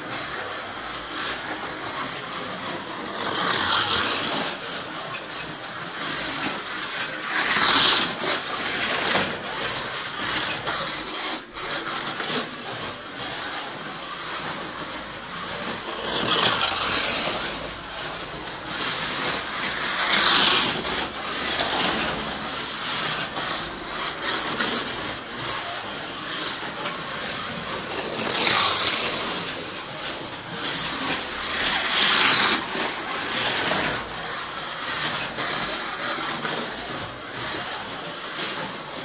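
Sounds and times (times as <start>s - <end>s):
slot cars rattling on track: 0.0s - 39.0s.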